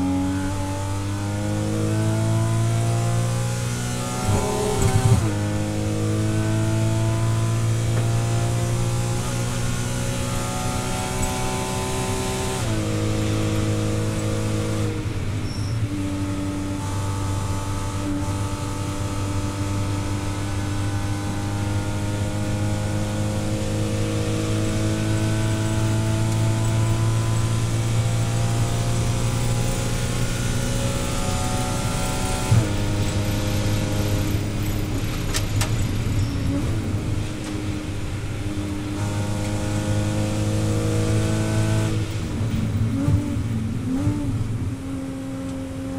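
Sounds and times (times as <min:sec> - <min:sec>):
race car engine at full throttle: 0:00.0 - 0:45.9.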